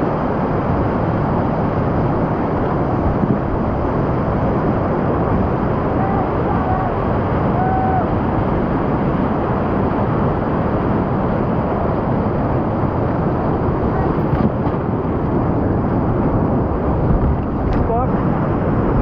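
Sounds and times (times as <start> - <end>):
water rushing over rapids: 0.0 - 19.0.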